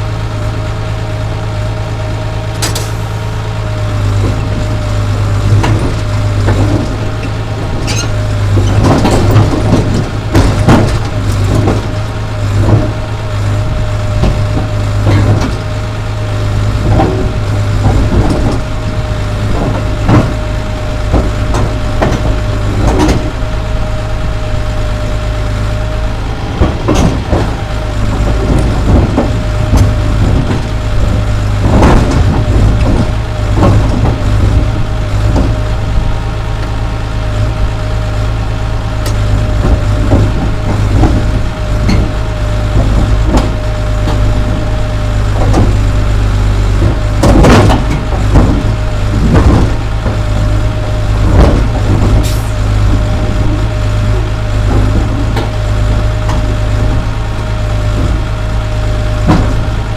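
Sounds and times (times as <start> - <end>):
diesel engine running: 0.0 - 59.9
steady whine: 0.0 - 59.9
machine knocks and clanks: 2.5 - 59.9.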